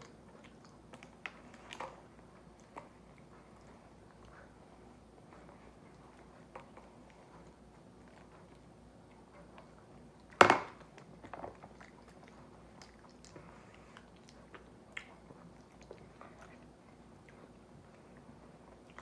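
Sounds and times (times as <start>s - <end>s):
person chewing bread: 0.0s - 19.0s.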